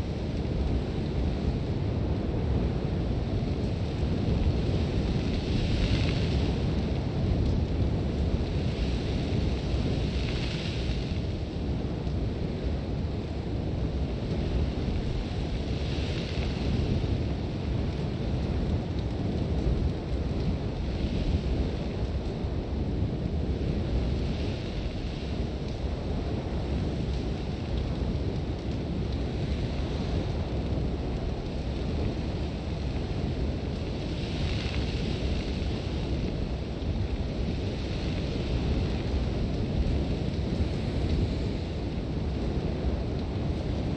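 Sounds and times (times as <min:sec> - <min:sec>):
wind blowing hard: 0:00.0 - 0:43.9.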